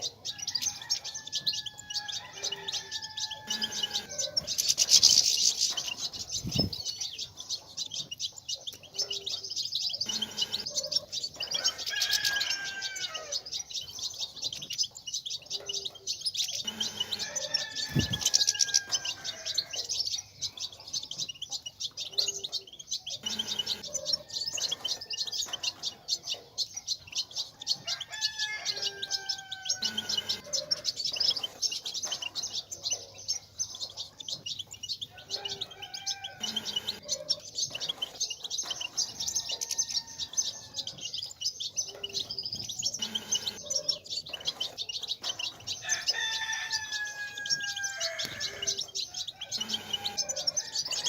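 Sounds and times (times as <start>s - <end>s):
goldfinches twittering: 0.0s - 51.0s.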